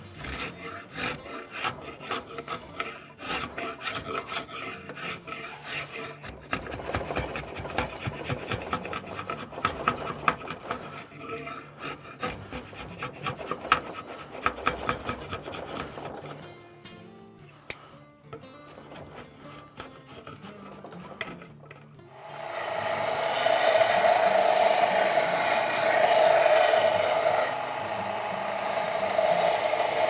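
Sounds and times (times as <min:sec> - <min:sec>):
draw knife scraping wood: 0:00.0 - 0:16.6, 0:17.7 - 0:30.0.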